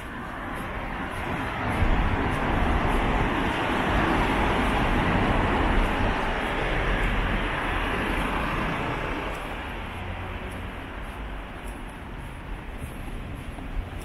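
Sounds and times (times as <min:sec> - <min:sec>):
low traffic rumble: 0:00.0 - 0:14.0
vehicle passing: 0:00.0 - 0:14.0.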